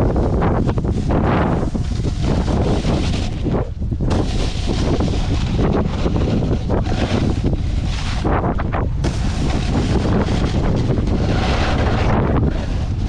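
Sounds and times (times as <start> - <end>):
snowboard sliding on snow: 0.0 - 13.0
wind buffeting microphone: 0.0 - 13.0.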